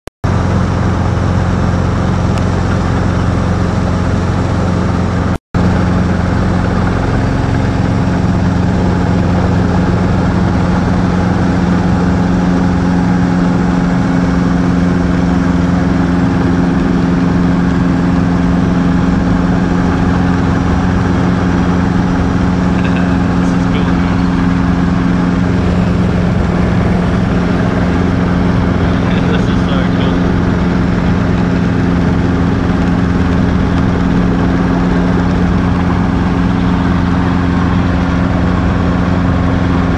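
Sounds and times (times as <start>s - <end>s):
helicopter engine and rotor: 0.2s - 39.9s.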